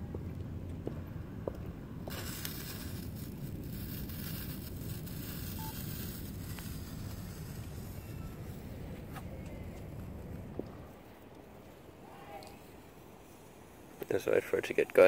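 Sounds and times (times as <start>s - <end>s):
fuse hissing and crackling: 1.4s - 10.0s, 10.6s - 15.0s.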